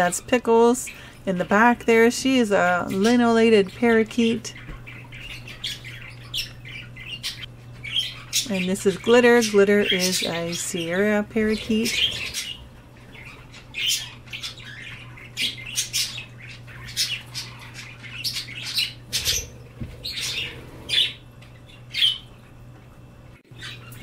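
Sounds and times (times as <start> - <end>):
steady low hum: 0.0 - 24.0
parrots chirping and squawking: 2.6 - 22.5, 23.5 - 24.0.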